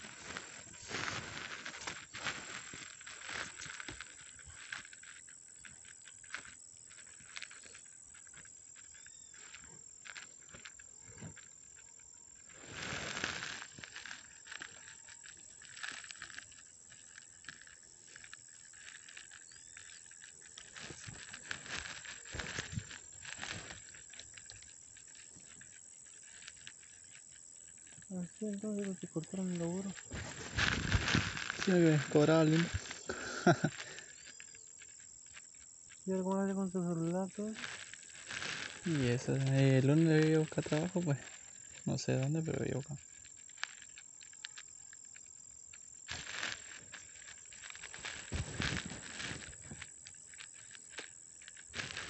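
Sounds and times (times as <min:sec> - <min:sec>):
grass rustling: 0:00.0 - 0:52.0
insects droning: 0:00.0 - 0:52.0.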